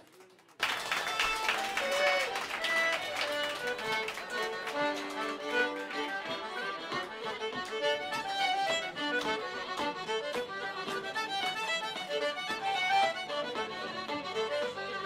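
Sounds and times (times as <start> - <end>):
fiddle playing a quick tune: 1.1 - 15.0.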